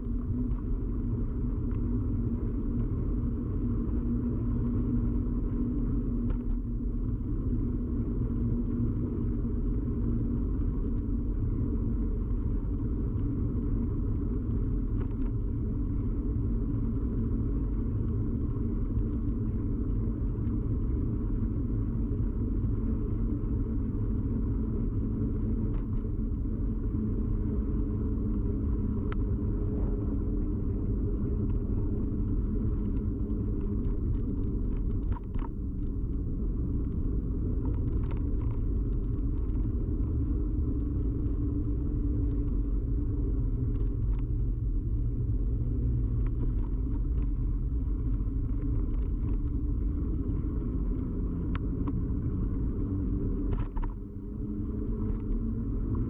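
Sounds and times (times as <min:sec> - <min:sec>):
bicycle road vibration rumble: 0:00.0 - 0:56.0.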